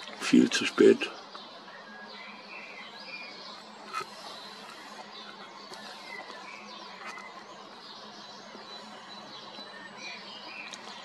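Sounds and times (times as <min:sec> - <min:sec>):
birds singing and chirping: 0:00.0 - 0:11.0.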